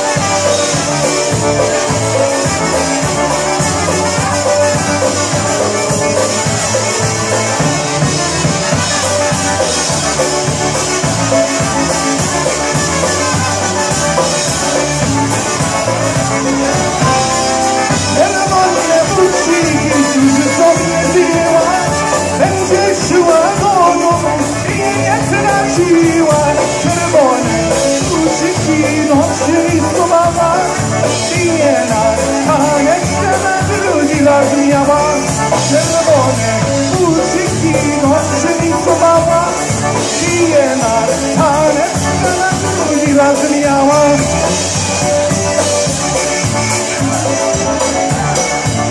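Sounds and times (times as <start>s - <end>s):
accordion: 0.0s - 48.9s
bass: 0.0s - 48.9s
electric guitar: 0.0s - 48.9s
steady drum beat: 0.0s - 48.9s
trumpets: 0.0s - 48.9s
person singing: 9.6s - 48.9s.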